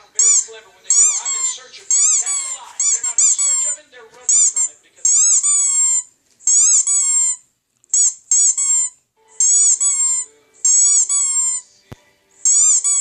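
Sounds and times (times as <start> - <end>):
squeaky dog toy squeaks: 0.2 - 11.7, 12.4 - 13.0.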